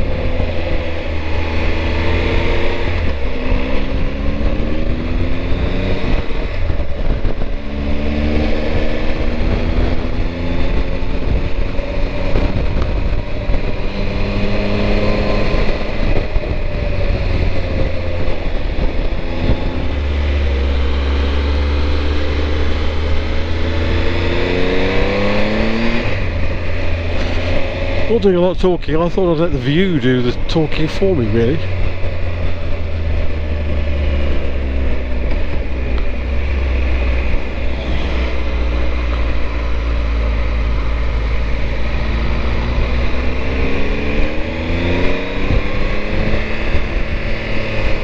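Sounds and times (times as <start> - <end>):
motorcycle engine revving: 0.0 - 48.0
wind rush: 0.0 - 48.0.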